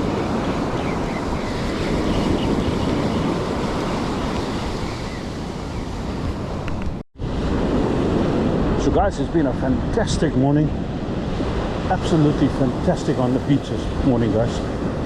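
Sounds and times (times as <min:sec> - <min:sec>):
surf washing on beach: 0:00.0 - 0:15.0
wind rumbling on microphone: 0:00.0 - 0:15.0.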